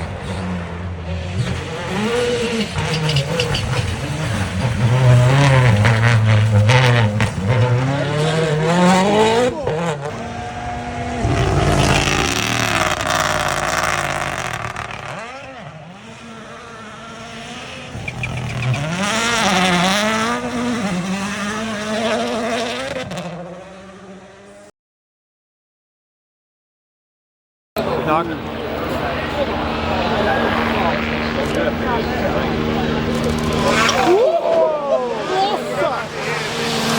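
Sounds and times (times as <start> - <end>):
rally car engine revving: 0.0 - 24.7, 27.8 - 36.9.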